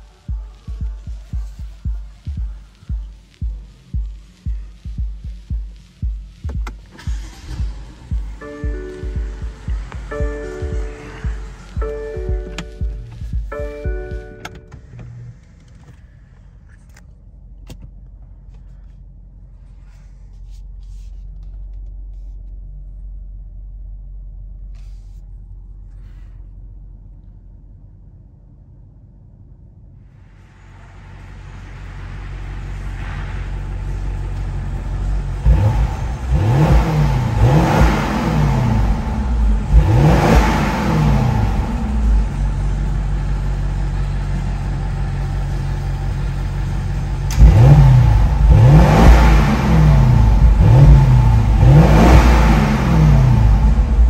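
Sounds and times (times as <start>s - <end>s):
car engine revving and idling: 0.0s - 54.0s.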